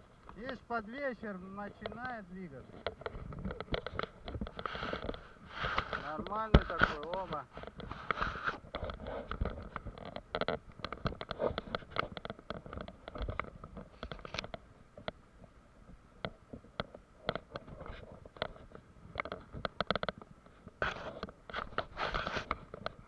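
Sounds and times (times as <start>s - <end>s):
clicks taps and scraping: 0.0s - 23.0s.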